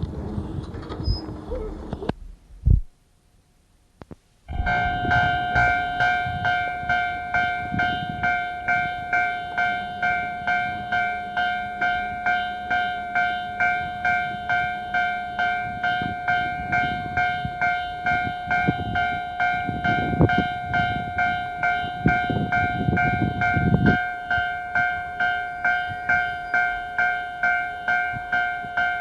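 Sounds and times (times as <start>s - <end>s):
train rumbling: 0.0s - 2.8s, 4.5s - 29.0s
level crossing bell ringing: 4.5s - 29.0s.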